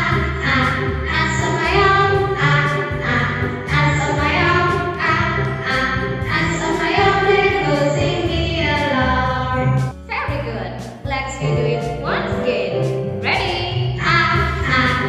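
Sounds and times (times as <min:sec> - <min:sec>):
person singing children's song: 0:00.0 - 0:10.5, 0:11.1 - 0:15.0
rhythmic backing track: 0:00.0 - 0:15.0.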